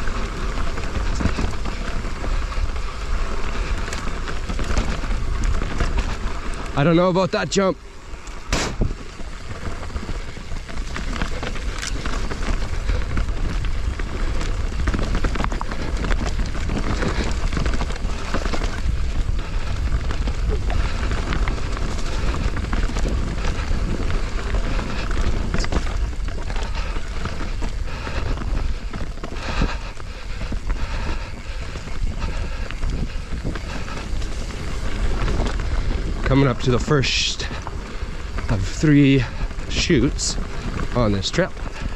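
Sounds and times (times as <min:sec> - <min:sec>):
bike knocking and rattling: 0:00.0 - 0:41.9
bike tyre noise: 0:00.0 - 0:41.9
wind on microphone: 0:08.2 - 0:41.9.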